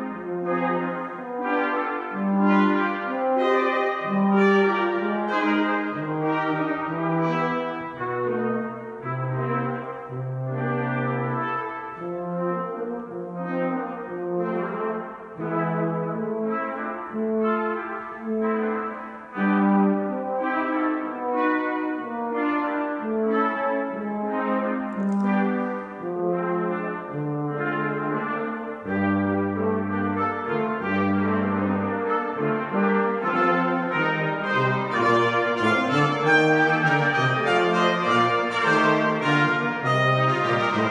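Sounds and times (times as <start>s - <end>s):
brass quartet playing chords: 0.0s - 40.9s.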